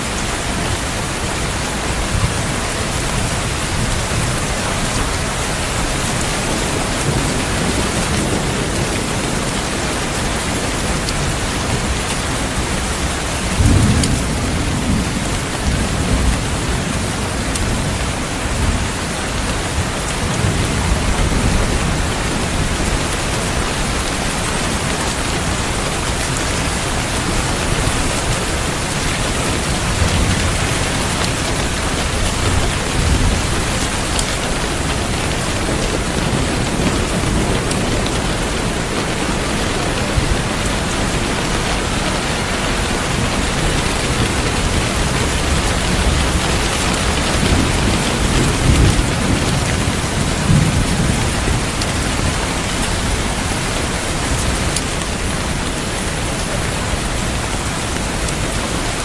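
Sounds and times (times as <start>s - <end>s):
low thunder rumbling: 0.0s - 58.3s
heavy rain: 0.0s - 59.0s.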